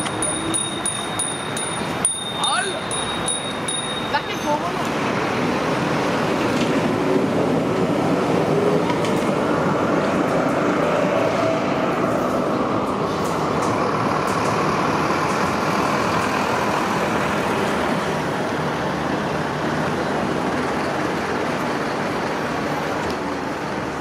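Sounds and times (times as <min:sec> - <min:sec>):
buses running: 0:00.0 - 0:24.0
traffic noise: 0:00.0 - 0:24.0
tram rolling on rails: 0:00.0 - 0:24.0.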